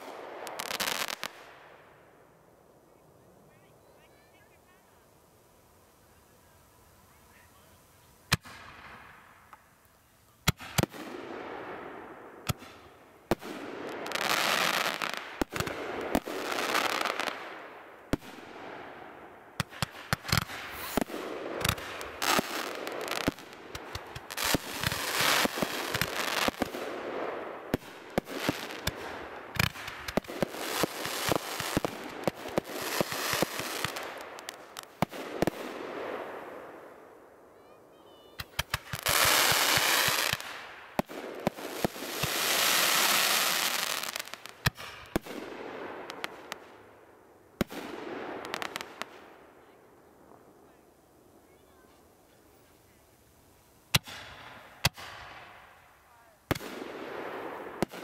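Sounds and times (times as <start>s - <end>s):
fireworks bangs: 0.0s - 1.8s, 8.2s - 9.7s, 10.4s - 46.9s, 47.6s - 52.5s, 53.9s - 58.0s
fireworks hissing and crackling: 0.0s - 58.0s.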